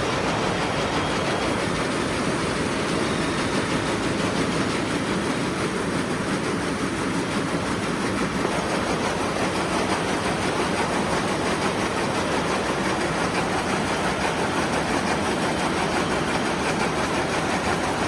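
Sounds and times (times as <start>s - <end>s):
machinery noise: 0.0s - 18.0s.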